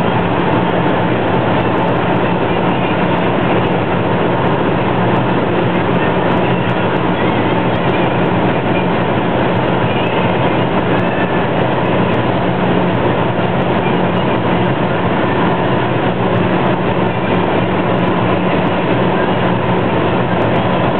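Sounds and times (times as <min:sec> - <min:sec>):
in-car engine wind and road drone: 0:00.0 - 0:20.9.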